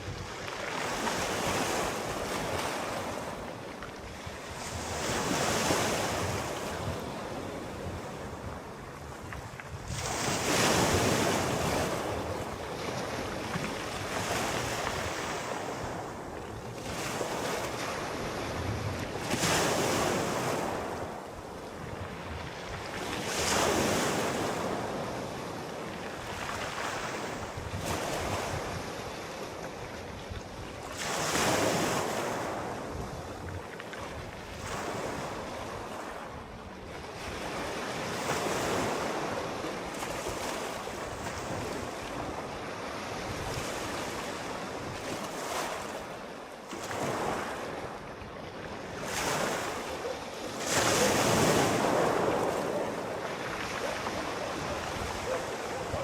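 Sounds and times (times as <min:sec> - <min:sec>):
gentle sea waves breaking: 0:00.0 - 0:56.0.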